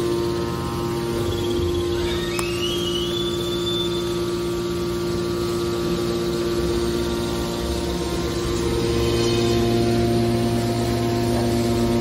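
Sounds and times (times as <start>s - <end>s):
high whine: 0.0s - 12.0s
hydraulic motor and pump hum: 0.0s - 12.0s.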